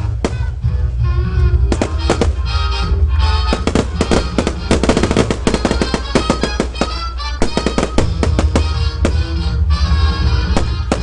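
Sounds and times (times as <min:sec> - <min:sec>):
fireworks bursting and crackling: 0:00.0 - 0:00.6, 0:01.7 - 0:11.0
music playing: 0:00.0 - 0:11.0.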